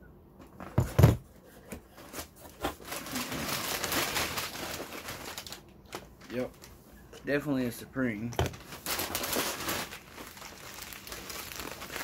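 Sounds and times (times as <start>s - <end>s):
packing paper rustling: 0.7s - 6.8s, 8.4s - 12.0s.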